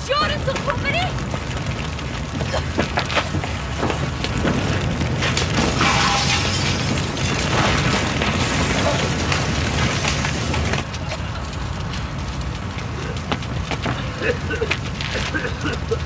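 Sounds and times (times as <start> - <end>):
burning debris: 0.0 - 16.0
explosion rumble: 0.0 - 16.0.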